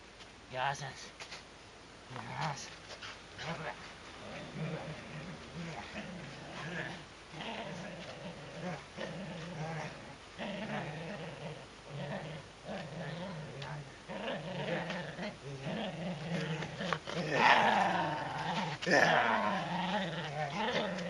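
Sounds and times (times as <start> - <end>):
dog play-growling: 2.1 - 21.0.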